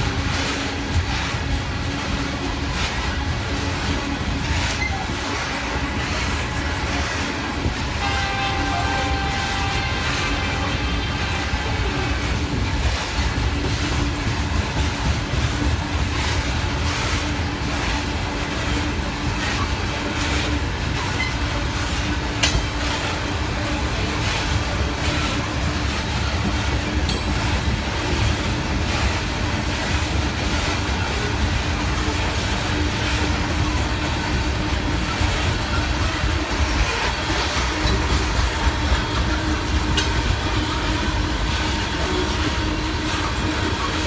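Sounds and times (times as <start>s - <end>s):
clicking over rail joints: 0.0s - 44.0s
freight train wheels rumbling on rail: 0.0s - 44.0s.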